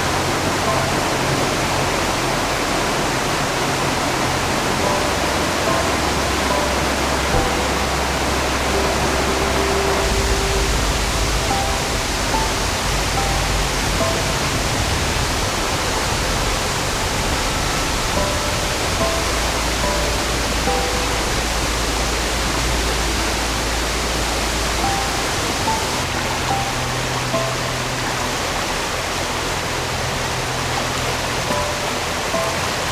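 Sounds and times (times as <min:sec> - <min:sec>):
soft background music: 0:00.0 - 0:32.9
stream water flowing over rocks: 0:00.0 - 0:32.9.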